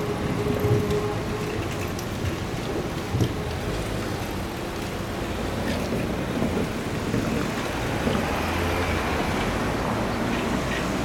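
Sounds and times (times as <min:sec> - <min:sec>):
street traffic: 0:00.0 - 0:11.0
train wheels and motors rumbling: 0:00.0 - 0:11.0.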